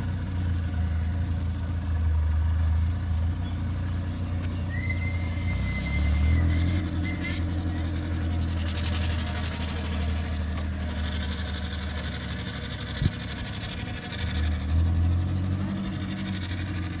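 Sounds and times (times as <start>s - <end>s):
vehicle engine running at low revs: 0.0s - 17.0s.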